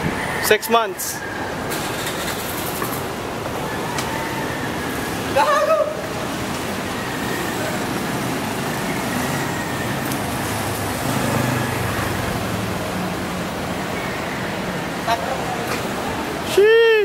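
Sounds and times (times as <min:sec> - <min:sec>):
passing motor vehicle hum: 0:00.0 - 0:16.6
road traffic rush: 0:00.0 - 0:17.0.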